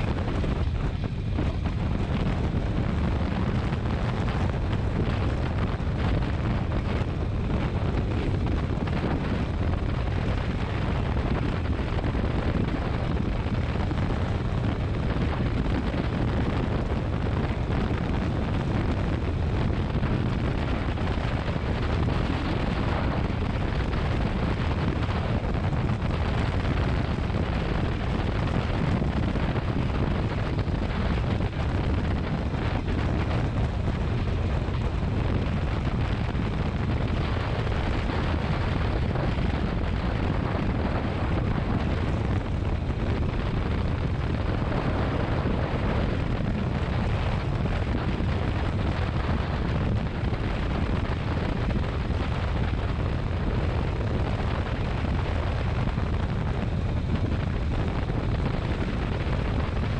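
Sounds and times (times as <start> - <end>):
motorcycle engine rumble: 0.0 - 59.9
wind buffeting microphone: 0.0 - 59.9.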